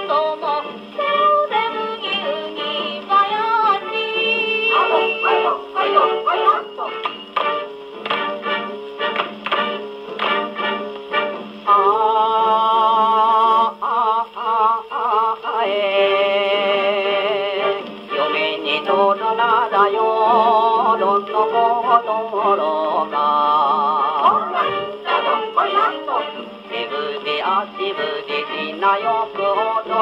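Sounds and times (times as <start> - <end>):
gramophone record playing vocal: 0.0 - 30.0.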